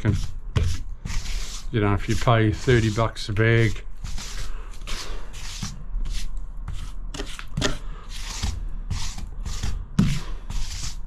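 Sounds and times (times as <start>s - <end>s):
grout scraping across tiles: 0.0s - 11.0s.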